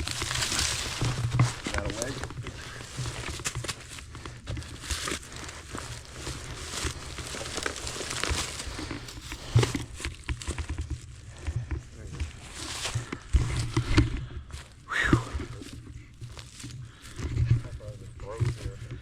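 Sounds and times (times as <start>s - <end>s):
dry leaves and sticks crackling: 0.0s - 19.0s.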